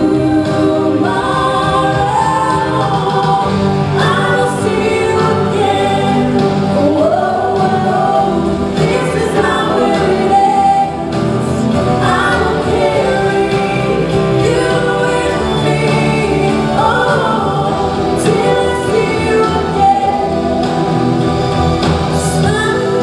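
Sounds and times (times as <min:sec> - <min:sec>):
woman singing a slow ballad: 0:00.0 - 0:21.0, 0:22.1 - 0:23.0.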